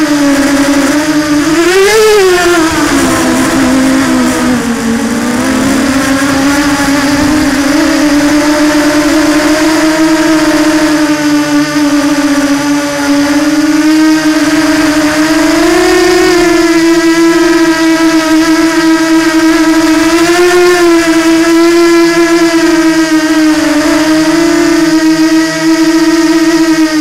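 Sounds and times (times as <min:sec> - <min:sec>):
drone buzzing whine: 0:00.0 - 0:27.0.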